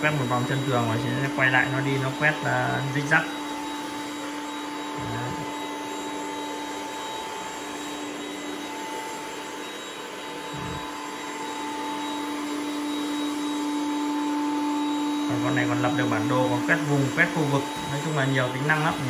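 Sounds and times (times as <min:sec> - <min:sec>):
robot vacuum motor hum: 0:00.0 - 0:19.0.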